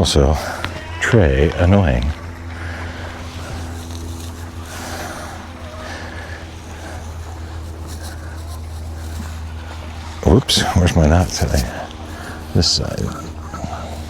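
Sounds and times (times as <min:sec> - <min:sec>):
low mechanical hum: 0:00.0 - 0:14.0
faint rustling: 0:01.9 - 0:14.0.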